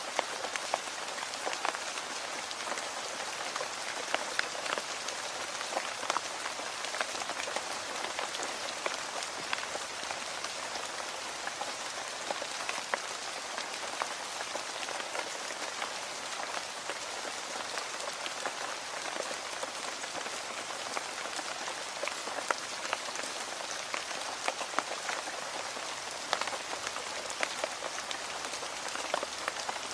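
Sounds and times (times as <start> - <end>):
rain on a hard surface: 0.0 - 29.9.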